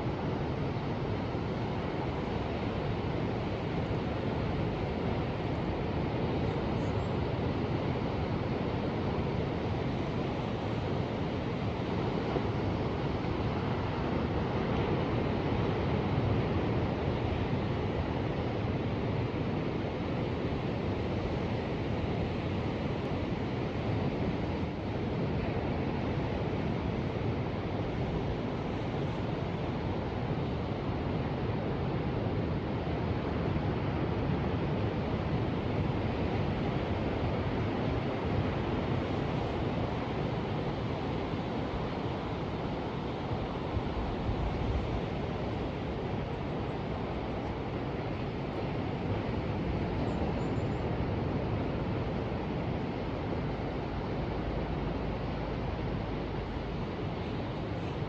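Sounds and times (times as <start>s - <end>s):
ocean surf: 0.0s - 58.0s.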